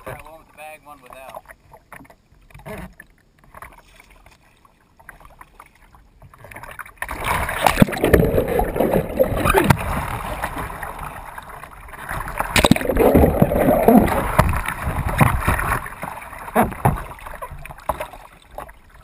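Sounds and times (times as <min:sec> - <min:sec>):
water splashing against kayak: 0:00.0 - 0:19.0.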